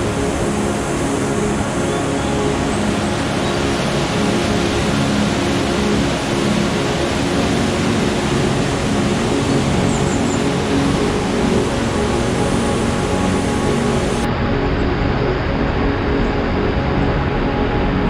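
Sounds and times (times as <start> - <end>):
ambient music with sustained tones: 0.0 - 18.0.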